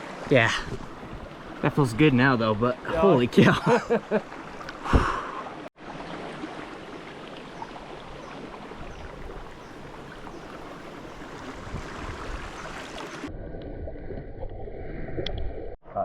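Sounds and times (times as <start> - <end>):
river water flowing: 0.0 - 13.3
muffled water noise: 0.0 - 15.8.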